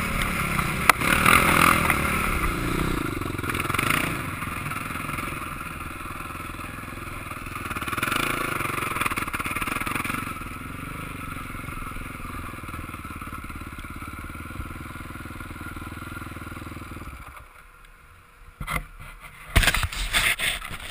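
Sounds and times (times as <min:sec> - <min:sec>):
motocross bike engine running: 0:00.0 - 0:17.3.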